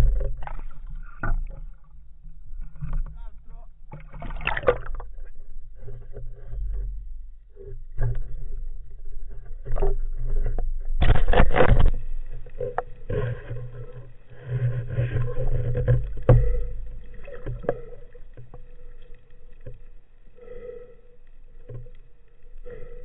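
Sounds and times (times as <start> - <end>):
underwater water noise: 0.0 - 23.0.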